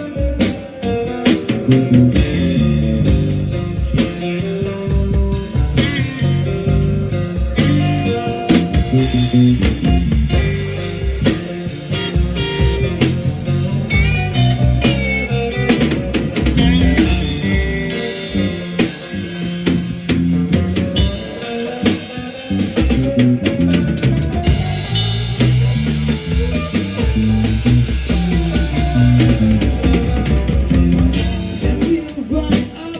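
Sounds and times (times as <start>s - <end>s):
bent guitar notes: 0.0s - 31.9s
blues rock band playing: 0.0s - 32.9s.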